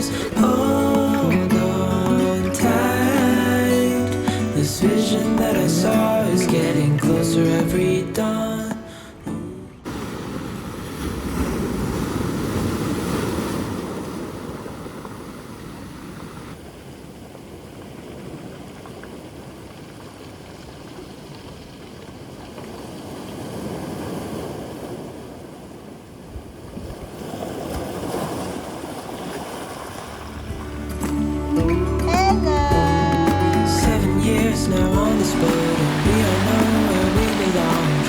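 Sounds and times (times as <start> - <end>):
sea waves washing: 0.0 - 38.0.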